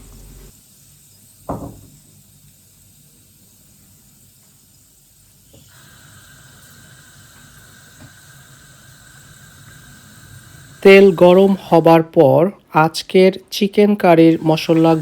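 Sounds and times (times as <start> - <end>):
oil sizzling in a pan: 0.0 - 12.0, 14.2 - 15.0.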